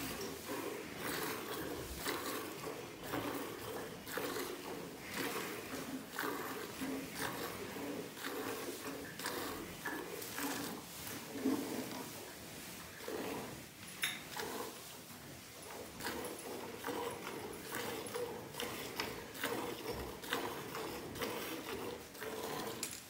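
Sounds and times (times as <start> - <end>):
milk squirting into steel pail: 0.0 - 12.2, 15.6 - 22.9.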